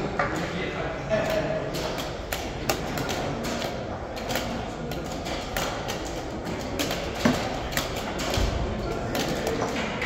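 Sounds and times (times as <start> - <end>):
background hum of hall: 0.0 - 10.0.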